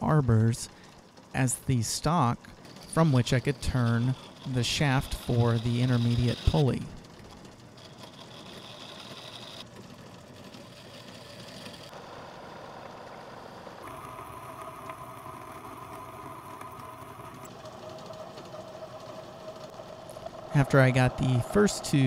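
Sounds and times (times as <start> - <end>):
metal lathe turning steel: 0.5 - 22.0.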